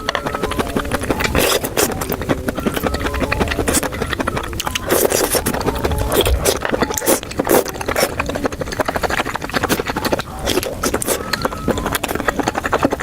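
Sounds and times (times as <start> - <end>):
wet chewing and mouth smacks: 0.0 - 13.0.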